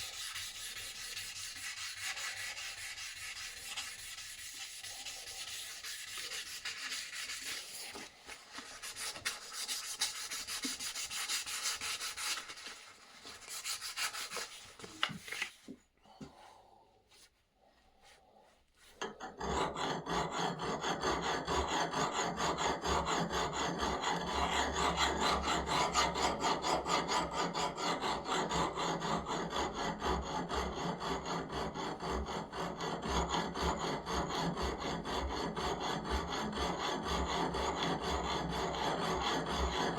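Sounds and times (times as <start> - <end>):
tool rasping over surface: 0.0 - 14.7, 19.0 - 39.9.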